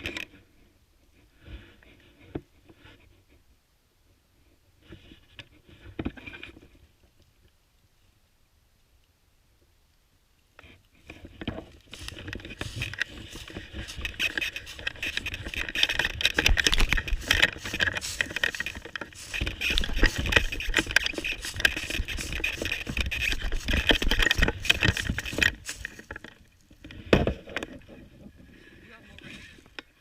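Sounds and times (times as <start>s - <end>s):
rustling and scraping: 0.0s - 3.5s, 4.4s - 7.3s, 10.6s - 30.0s.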